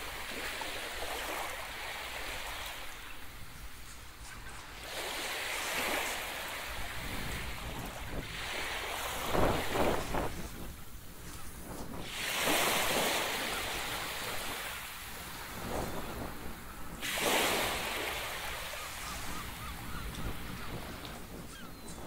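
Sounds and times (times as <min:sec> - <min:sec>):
surf washing up beach: 0:00.0 - 0:22.0
wind on microphone: 0:03.2 - 0:22.0.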